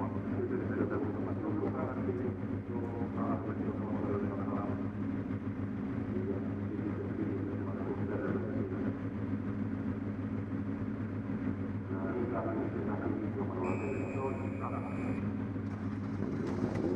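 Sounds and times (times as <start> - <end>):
race car engine idling: 0.0 - 16.9.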